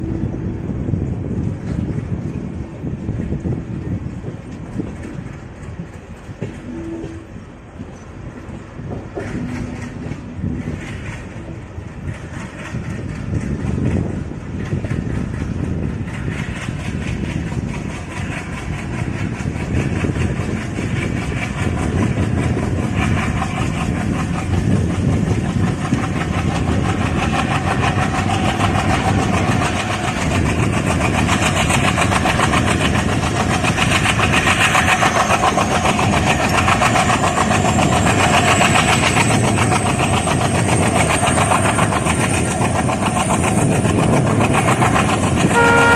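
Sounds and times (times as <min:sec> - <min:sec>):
diesel locomotive engine running: 0:00.0 - 0:45.9.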